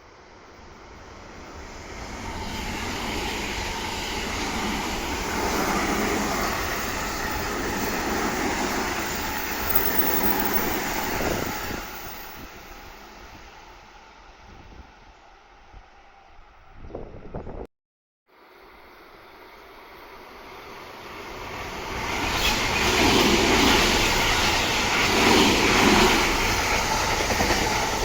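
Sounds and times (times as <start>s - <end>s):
train wheels on rail: 0.3s - 16.4s, 19.3s - 28.0s.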